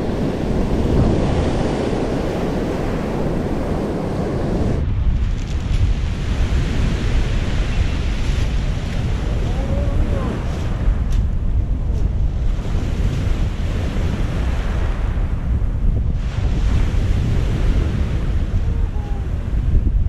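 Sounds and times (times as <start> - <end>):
surf on a pebble beach: 0.0 - 20.0
wind buffeting microphone: 0.0 - 20.0.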